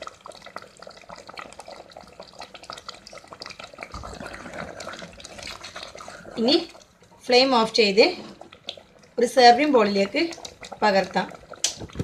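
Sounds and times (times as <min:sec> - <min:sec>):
ladle stirring gravy: 0:00.0 - 0:11.9
curry bubbling in a pot: 0:00.0 - 0:12.0.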